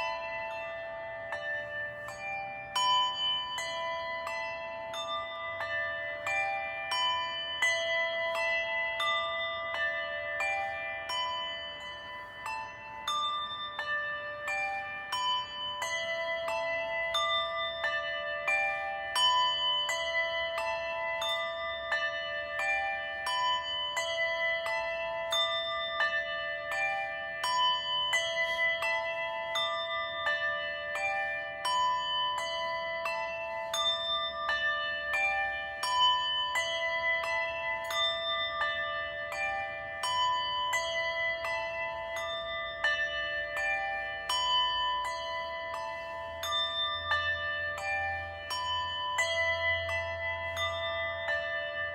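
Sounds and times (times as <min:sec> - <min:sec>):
bells ringing: 0:00.0 - 0:51.9.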